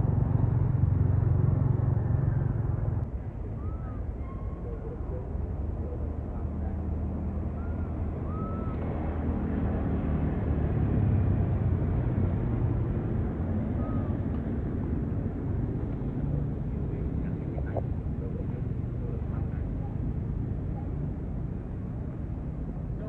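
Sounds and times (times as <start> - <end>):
passing vehicle engine rumble: 0.0 - 23.0.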